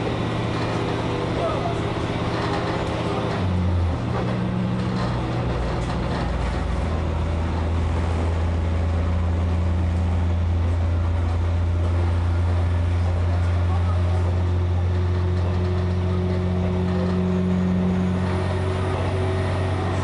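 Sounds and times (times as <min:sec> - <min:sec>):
diesel railcar engine drone: 0:00.0 - 0:20.0
wheels rumbling on rail: 0:00.0 - 0:20.0.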